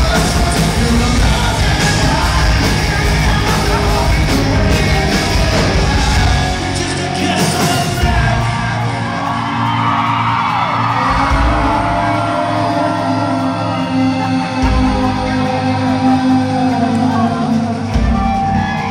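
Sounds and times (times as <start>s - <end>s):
man singing: 0.0s - 8.9s, 10.9s - 18.9s
live rock band playing: 0.0s - 18.9s.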